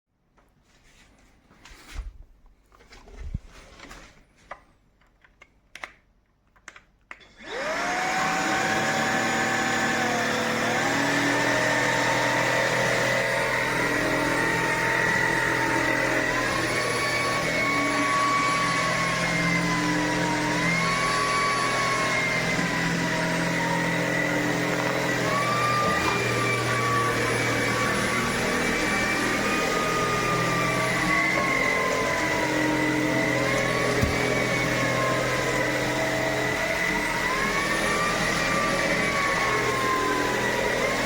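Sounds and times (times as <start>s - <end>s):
stick vacuum motor whine: 7.2s - 41.0s.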